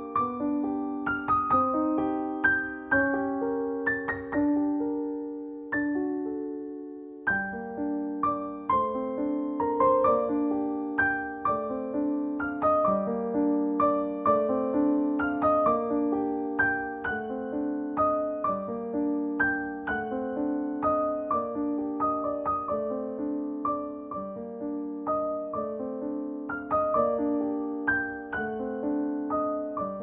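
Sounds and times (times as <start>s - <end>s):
gentle piano melody: 0.0s - 30.0s.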